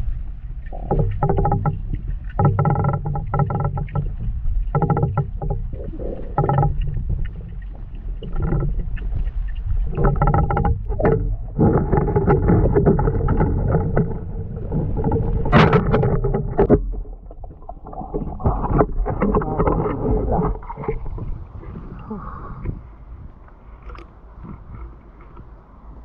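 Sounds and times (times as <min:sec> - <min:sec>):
muffled underwater river rushing: 0:00.0 - 0:26.0.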